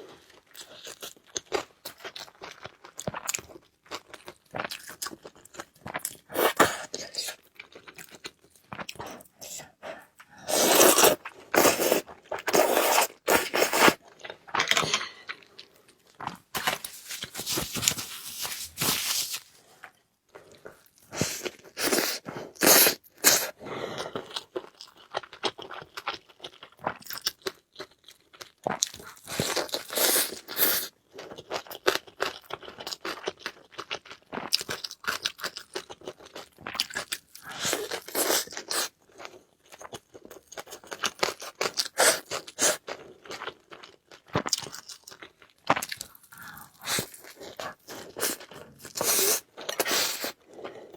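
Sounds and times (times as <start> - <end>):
person eating crunchy food: 0.1 - 50.9.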